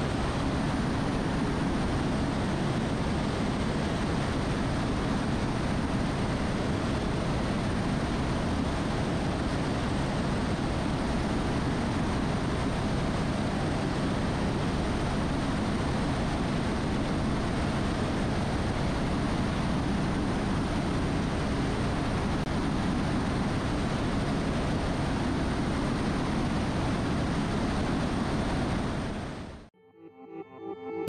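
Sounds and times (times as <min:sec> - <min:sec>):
helicopter rotor and engine noise: 0:00.0 - 0:29.7
high turbine whine: 0:00.0 - 0:31.0.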